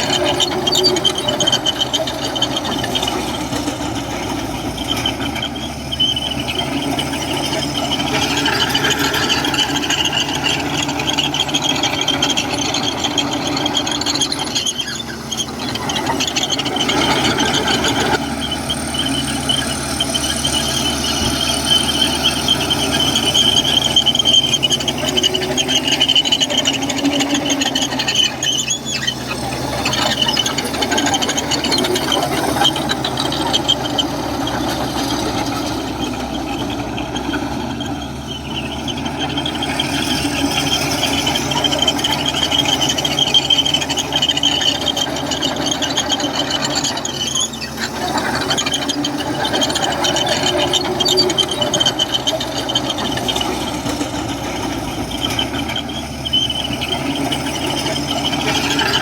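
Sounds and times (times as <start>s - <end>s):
bulldozer diesel engine running: 0.0s - 59.0s
high-pitched metallic squeal: 0.0s - 59.0s.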